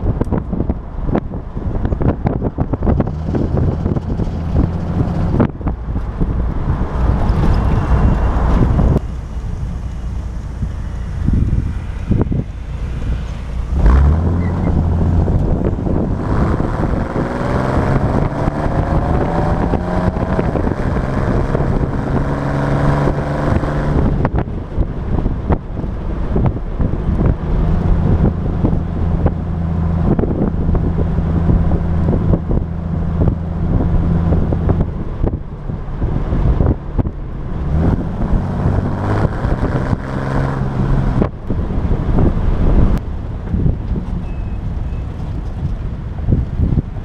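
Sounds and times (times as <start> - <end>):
wind noise: 0.0 - 47.0
car engine revving: 2.2 - 24.6, 26.3 - 46.8.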